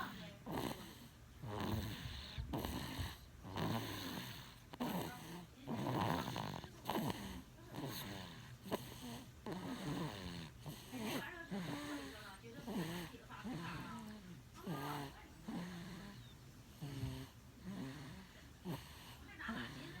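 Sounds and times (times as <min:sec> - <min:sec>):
snoring: 0:00.0 - 0:20.0.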